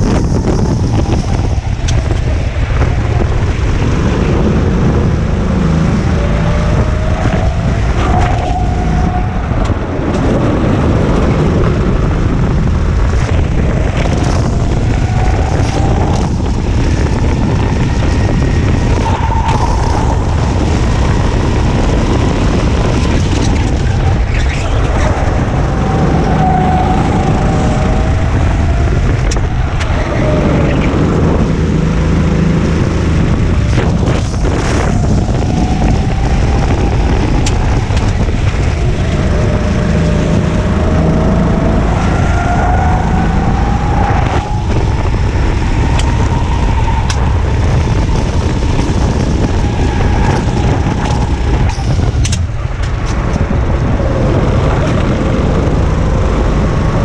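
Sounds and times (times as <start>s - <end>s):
go-kart engine racing: 0.0s - 57.0s
wind rumble on microphone: 0.0s - 57.0s.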